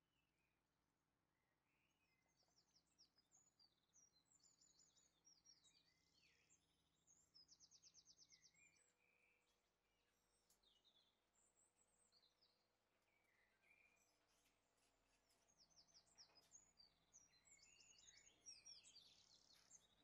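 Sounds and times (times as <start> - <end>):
faint birdsong: 0.0 - 20.0.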